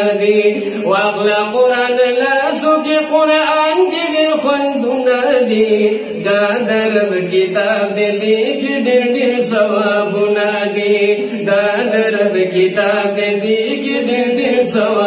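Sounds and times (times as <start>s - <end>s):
men singing a devotional chant: 0.0s - 15.0s.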